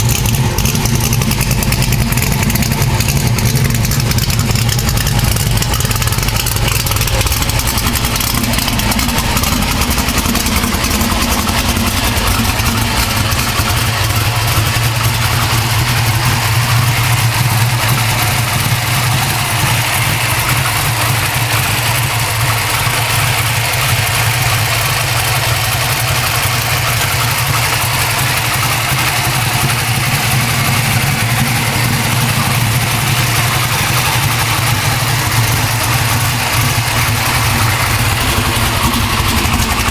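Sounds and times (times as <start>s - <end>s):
engine idling with exhaust drone: 0.0s - 39.9s.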